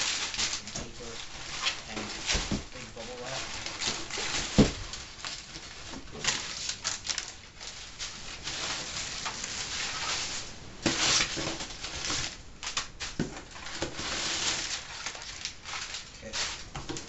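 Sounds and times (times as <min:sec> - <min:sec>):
packing material and cardboard rustling: 0:00.0 - 0:17.0.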